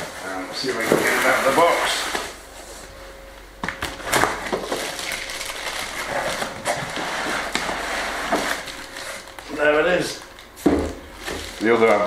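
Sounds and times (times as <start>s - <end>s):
plastic packing rustling and crinkling: 0.0s - 2.4s, 3.8s - 12.0s.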